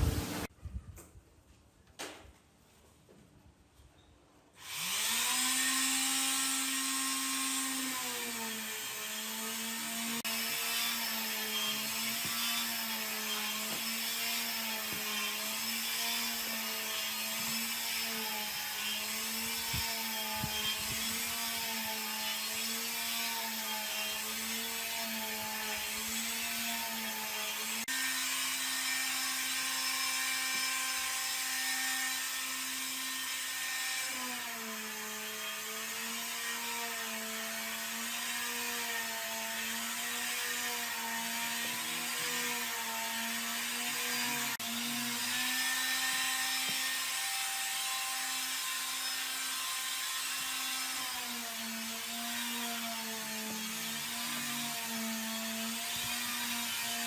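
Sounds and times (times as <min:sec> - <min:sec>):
power tool whining: 0:04.6 - 0:57.0.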